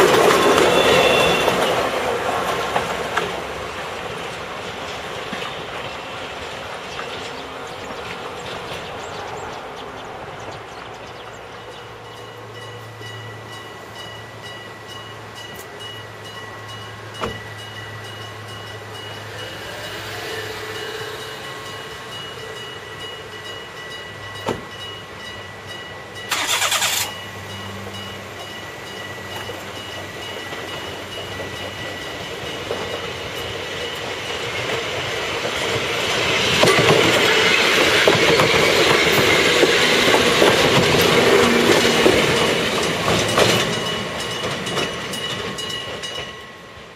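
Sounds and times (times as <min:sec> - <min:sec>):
wheels clattering on rails: 0:00.0 - 0:25.2, 0:26.2 - 0:46.9
train rumble: 0:00.0 - 0:46.9.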